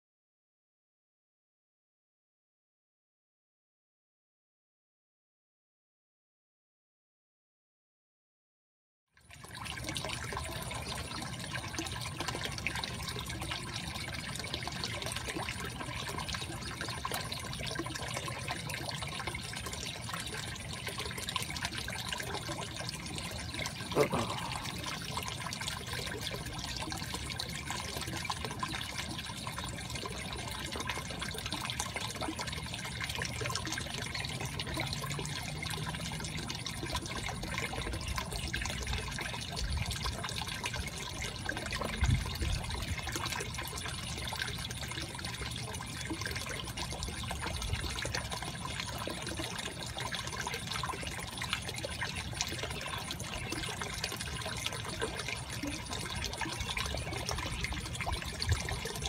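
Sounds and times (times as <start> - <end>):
water trickling and splashing: 9.2 - 59.0.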